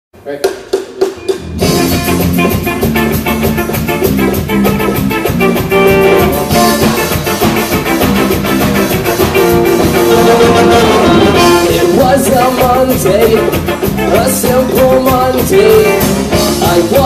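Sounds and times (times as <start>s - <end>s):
drum kit: 0.2s - 17.0s
electric guitars: 1.0s - 17.0s.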